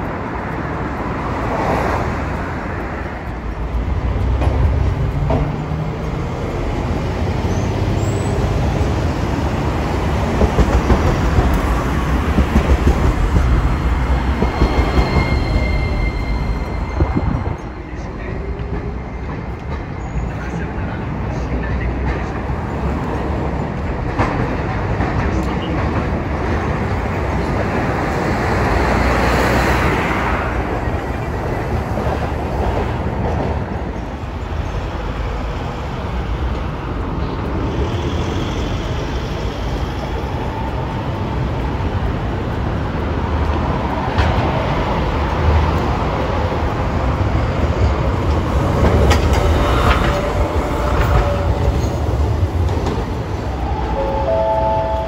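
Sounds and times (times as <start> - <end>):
tram motor whine: 0.0 - 21.3, 26.6 - 55.0
bus passing: 0.0 - 55.0
rail and road noise: 0.0 - 55.0
trams passing: 0.0 - 55.0.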